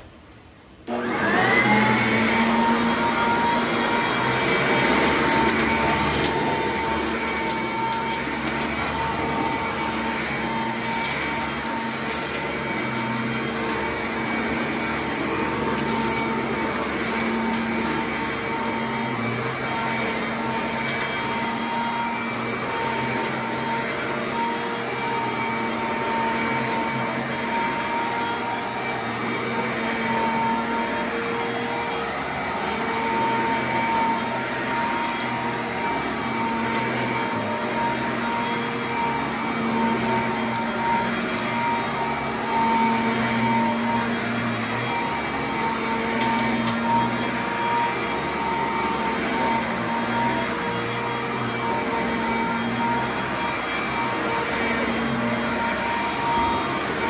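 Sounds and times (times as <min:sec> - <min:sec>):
upright vacuum cleaner running: 0:00.0 - 0:57.0.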